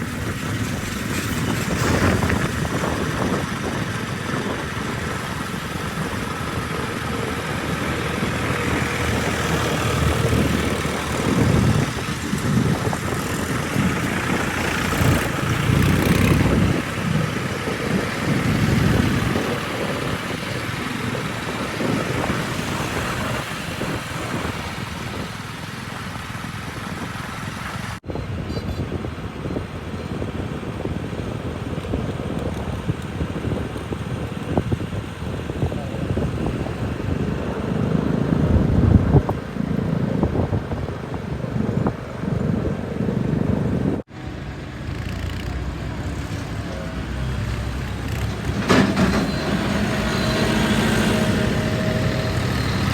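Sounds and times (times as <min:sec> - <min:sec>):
backhoe loader diesel engine: 0:00.0 - 0:52.9.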